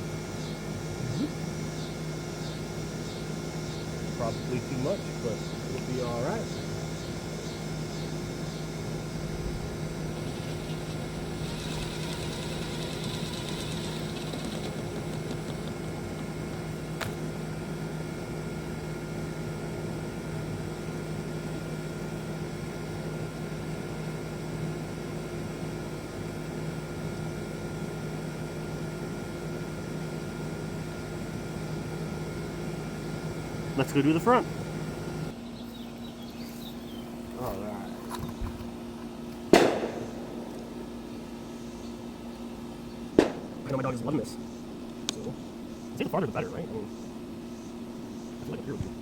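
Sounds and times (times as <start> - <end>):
steady mechanical hum: 0.0 - 49.0.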